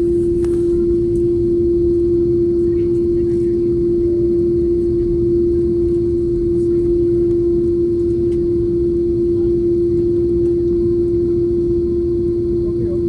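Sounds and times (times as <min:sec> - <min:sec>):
jet cabin engine rumble: 0:00.0 - 0:13.0
mid-pitched hum: 0:00.0 - 0:13.0.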